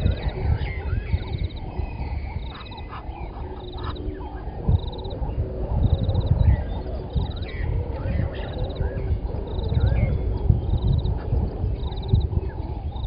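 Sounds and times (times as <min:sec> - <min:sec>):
bird calls: 0:00.0 - 0:13.0
steady low rumble: 0:00.0 - 0:13.0.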